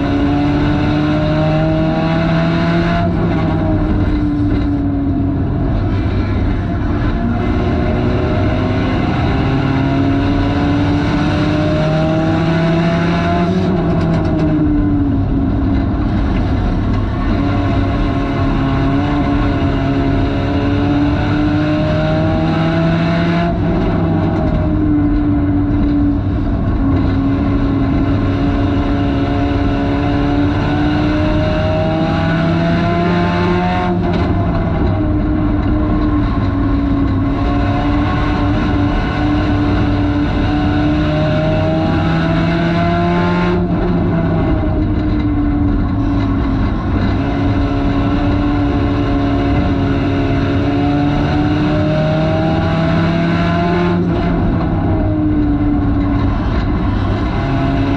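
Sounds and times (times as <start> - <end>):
race car engine revving: 0.0 - 57.9
constant rushing noise: 2.8 - 22.3, 23.0 - 57.9.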